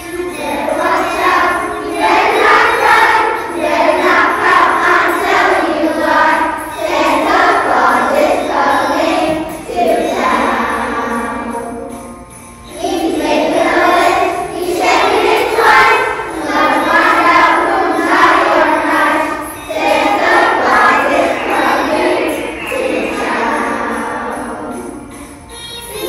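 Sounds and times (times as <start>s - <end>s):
backing track with jingle bells: 0.0s - 26.0s
children singing: 0.0s - 26.0s.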